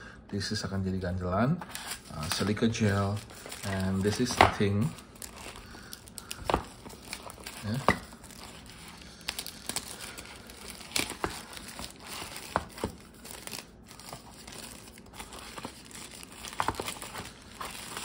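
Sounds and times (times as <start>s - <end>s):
plastic sleeve crinkling: 1.7s - 18.0s.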